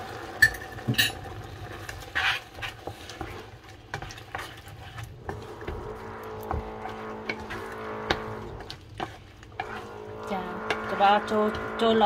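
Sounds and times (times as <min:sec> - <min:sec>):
wooden spatula scraping a pan: 0:00.8 - 0:12.0.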